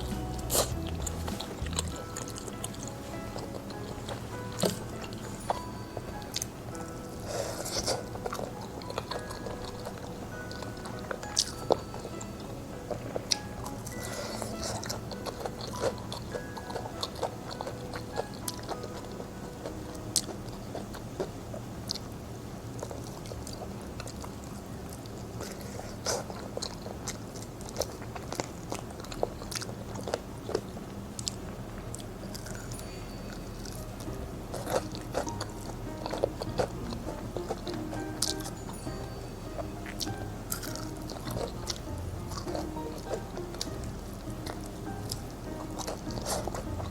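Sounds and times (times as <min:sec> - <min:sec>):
soft background music: 0:00.0 - 0:27.2, 0:27.8 - 0:46.9
chewing crunchy food: 0:00.0 - 0:46.9.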